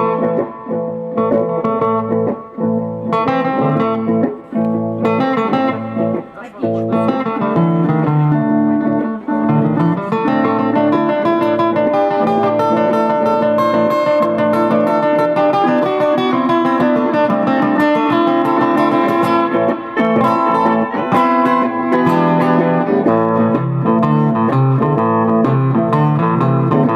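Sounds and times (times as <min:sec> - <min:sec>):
blues guitar playing: 0:00.0 - 0:26.9.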